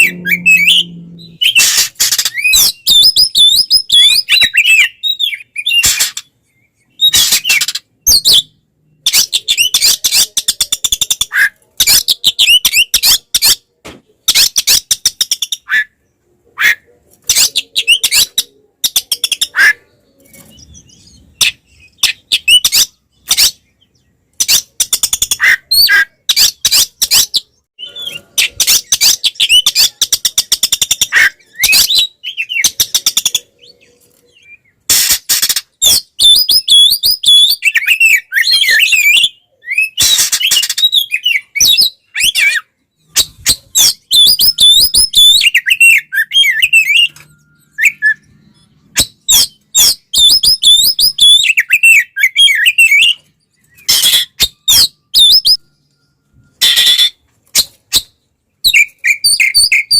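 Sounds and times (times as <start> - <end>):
bird song with harsh churrs and whistles: 0.0 - 59.9.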